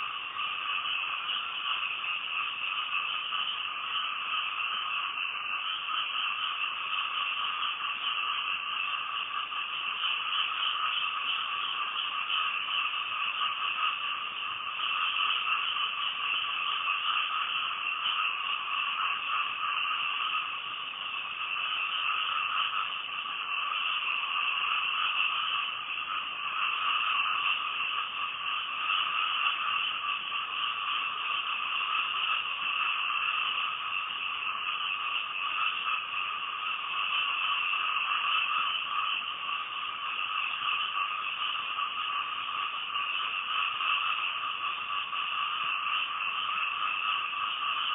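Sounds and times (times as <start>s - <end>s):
chorus of frogs calling: 0.0s - 47.9s.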